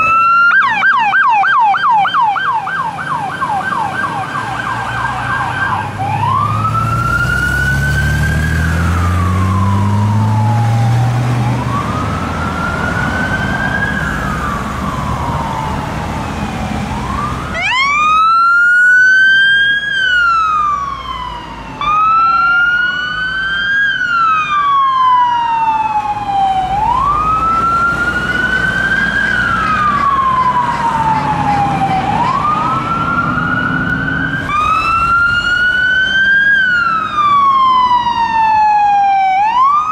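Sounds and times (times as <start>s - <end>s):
truck engine pulling away: 0.0s - 39.8s
fire engine sirens wailing: 0.0s - 39.9s.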